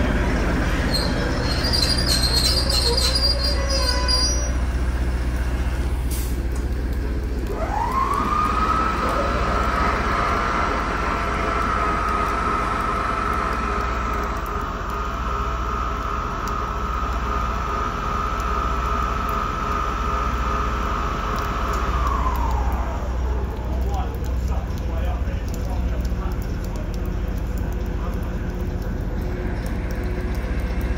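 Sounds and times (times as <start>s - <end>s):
diesel train low rumble: 0.0s - 30.9s.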